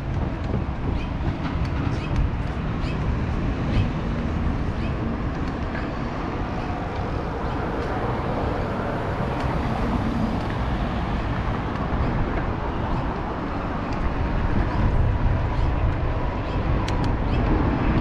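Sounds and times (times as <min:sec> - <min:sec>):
bike ride rumbling: 0:00.0 - 0:18.0
road traffic: 0:00.0 - 0:18.0.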